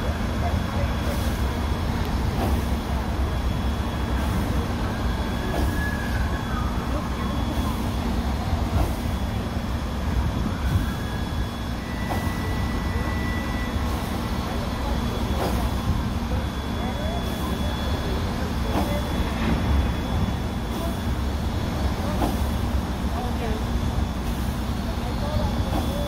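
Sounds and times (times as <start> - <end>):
steam locomotive rumble: 0.0 - 26.0.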